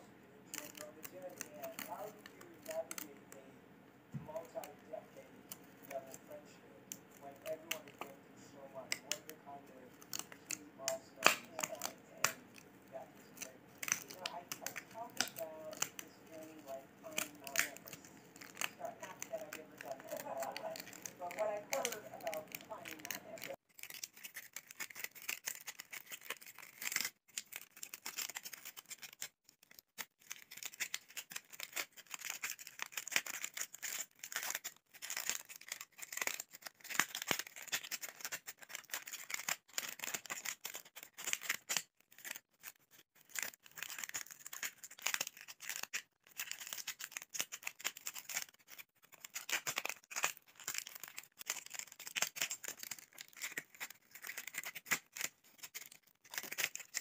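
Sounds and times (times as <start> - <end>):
plastic bottle crinkling: 8.8 - 57.0.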